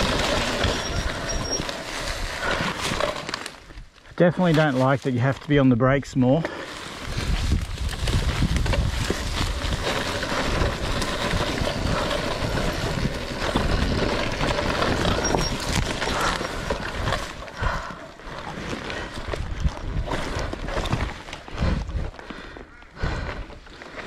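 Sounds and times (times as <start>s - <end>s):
tyres and suspension rumbling: 0.0s - 3.8s, 6.4s - 24.0s.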